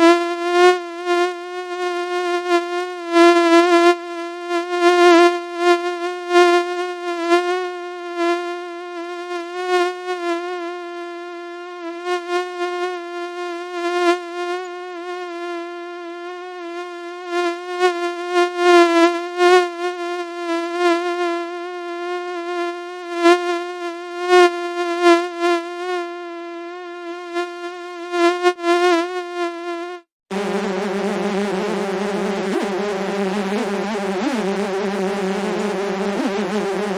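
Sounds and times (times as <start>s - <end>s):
mosquito-like buzzing whine: 0.0s - 36.9s.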